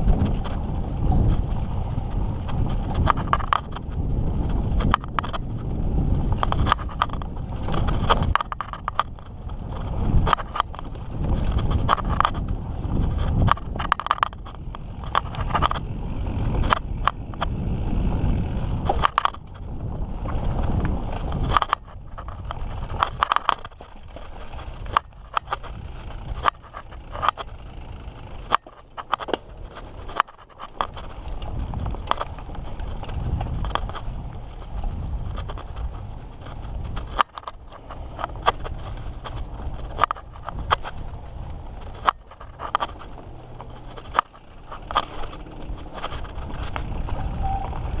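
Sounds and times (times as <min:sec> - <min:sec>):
bike rattling over bumps: 0:00.0 - 0:48.0
bike tyres crunching on dirt: 0:00.0 - 0:48.0
wind rumble on microphone: 0:00.0 - 0:48.0.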